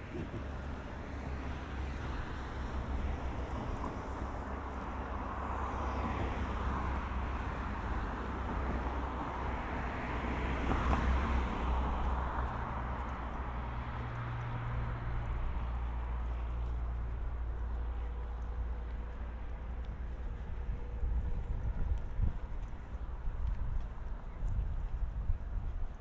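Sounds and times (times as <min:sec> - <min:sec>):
vehicle passing: 0:00.0 - 0:25.4
low traffic rumble: 0:00.0 - 0:26.0.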